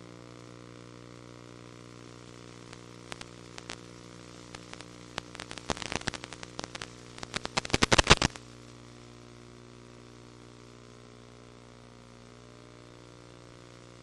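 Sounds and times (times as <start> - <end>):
crackling static: 0.0 - 14.0
steady electrical hum: 0.0 - 14.0.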